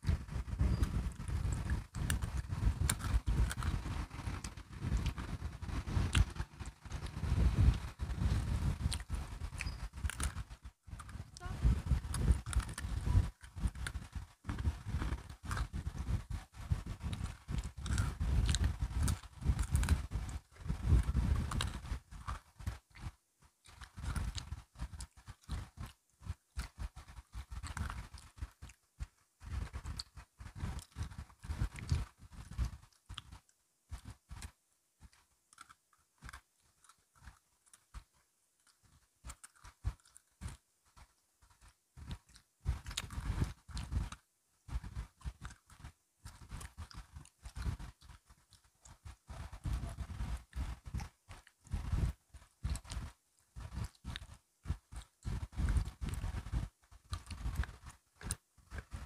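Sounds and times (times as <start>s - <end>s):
crunching and chewing biscuit sticks: 0.0s - 59.0s.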